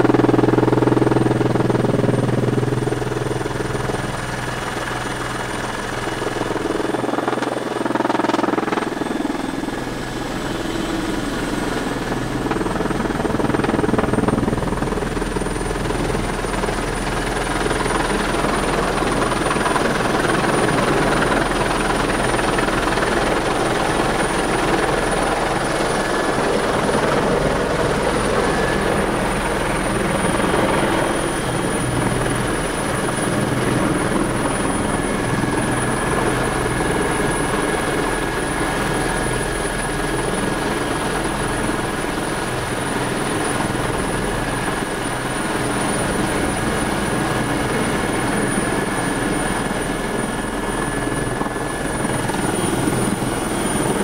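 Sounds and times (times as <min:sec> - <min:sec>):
helicopter rotor noise: 0:00.0 - 0:54.0
helicopter turbine whine: 0:00.0 - 0:54.0.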